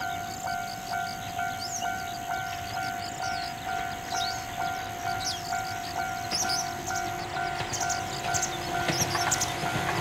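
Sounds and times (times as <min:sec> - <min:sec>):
level crossing warning bell: 0:00.0 - 0:10.0.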